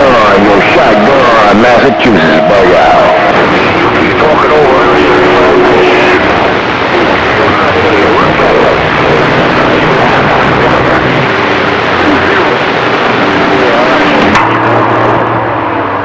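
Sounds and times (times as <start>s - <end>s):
faint garbled radio voices: 0.0s - 15.9s
radio static hiss: 0.0s - 16.0s
steady hum tones: 0.0s - 16.0s.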